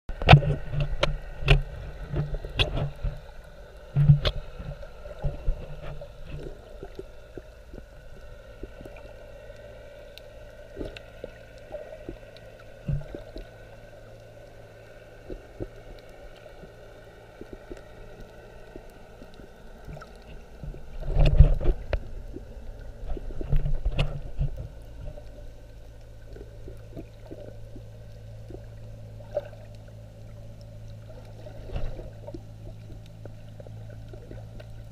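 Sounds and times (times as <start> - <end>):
faint steady tones: 0.1 - 34.9
underwater knocks and gurgles: 0.1 - 34.9
underwater low hum: 0.1 - 34.9.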